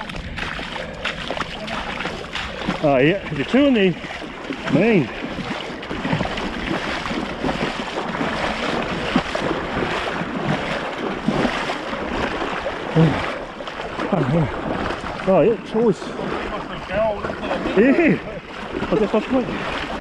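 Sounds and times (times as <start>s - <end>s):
wading through shallow water: 0.0s - 20.0s.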